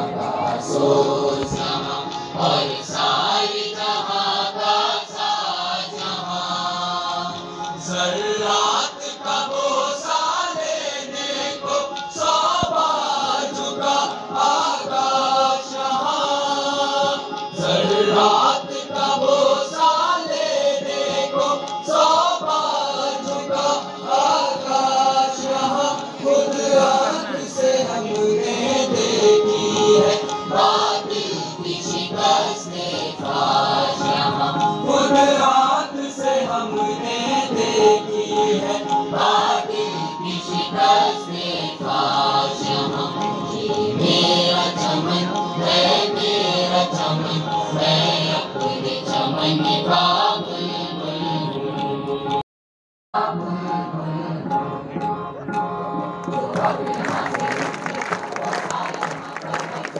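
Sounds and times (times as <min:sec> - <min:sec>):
chorus of voices singing: 0:00.0 - 0:52.4, 0:53.2 - 0:59.9.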